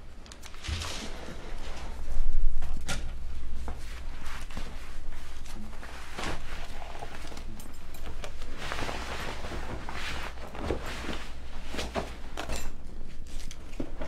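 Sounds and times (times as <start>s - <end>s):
low steady hum: 0.0s - 14.0s
rustling and soft knocks: 0.6s - 12.8s.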